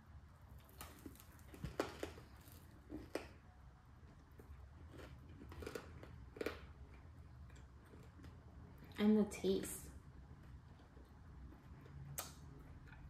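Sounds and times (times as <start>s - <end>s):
people chewing crunchy candy: 0.4s - 9.0s, 10.3s - 13.0s.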